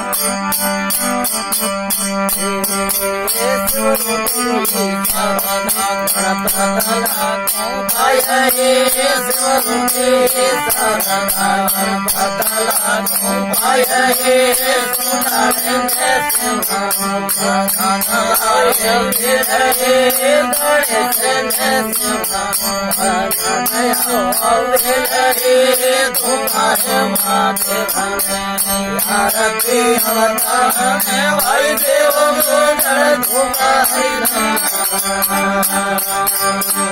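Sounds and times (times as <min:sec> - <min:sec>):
percussion beat: 0:00.0 - 0:36.9
wavering folk melody: 0:00.0 - 0:36.9.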